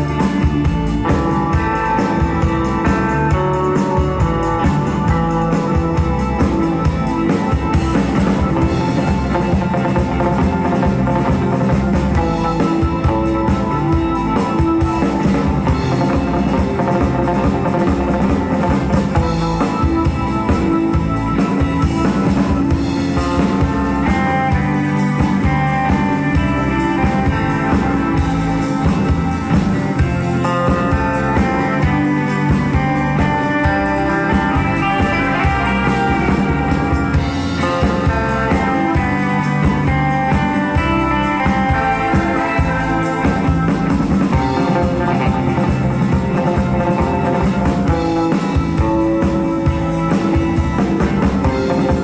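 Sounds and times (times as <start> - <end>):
electric guitar melody: 0.0 - 52.0
second guitar: 0.0 - 52.0
steady drum beat: 0.0 - 52.0.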